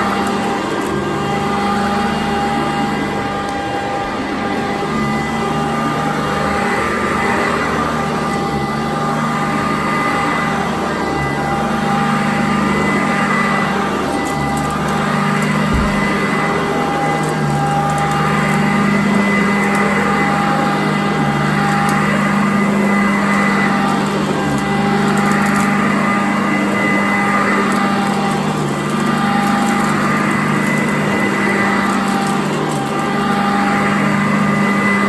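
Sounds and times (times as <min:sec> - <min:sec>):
vacuum cleaner running over carpet: 0:00.0 - 0:35.0.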